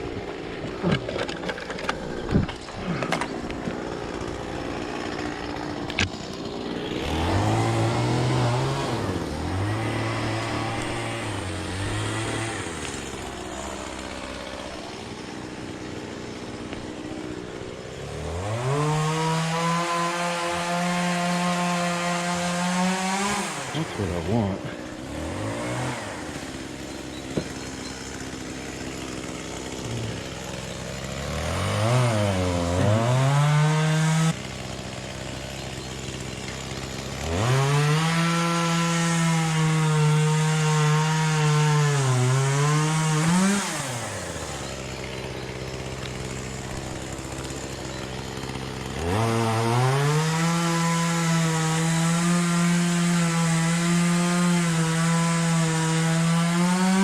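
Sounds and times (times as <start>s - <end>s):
two-stroke chainsaw revving: 0.0s - 57.0s.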